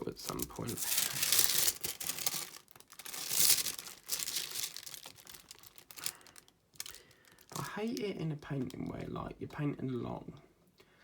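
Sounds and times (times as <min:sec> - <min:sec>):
plastic crinkling and rustling: 0:00.0 - 0:09.1.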